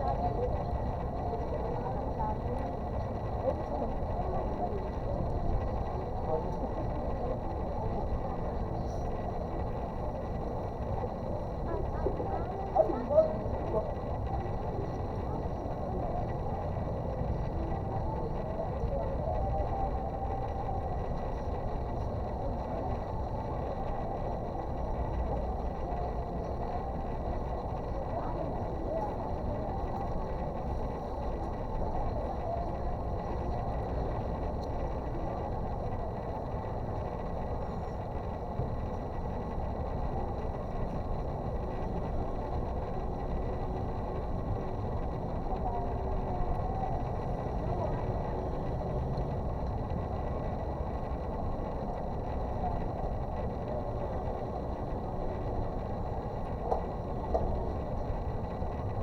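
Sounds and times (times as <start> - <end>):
faint distant voices: 0.0 - 59.0
low background rumble: 0.0 - 59.0.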